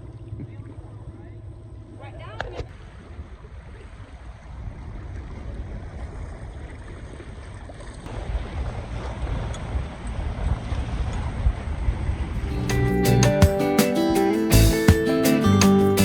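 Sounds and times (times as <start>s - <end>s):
water rushing along hull: 0.0s - 12.9s.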